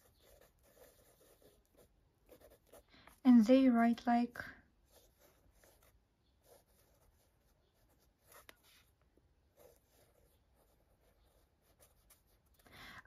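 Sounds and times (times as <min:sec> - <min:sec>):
pen scratching on paper: 0:00.0 - 0:02.9, 0:04.8 - 0:12.7.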